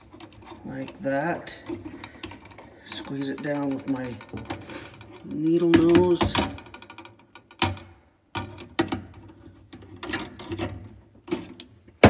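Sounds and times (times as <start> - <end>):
pliers clicking and scraping on wire: 0.0 - 11.7.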